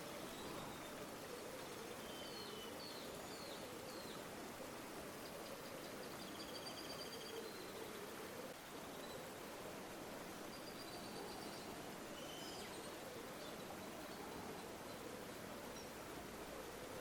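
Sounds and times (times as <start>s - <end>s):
river water flowing: 0.0s - 6.3s, 7.4s - 17.0s.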